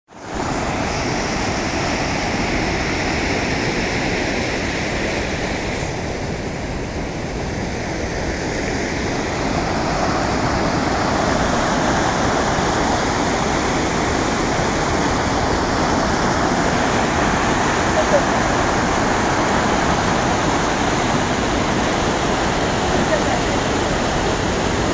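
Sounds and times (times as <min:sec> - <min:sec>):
floodwater rushing over a drop: 0:00.1 - 0:24.9.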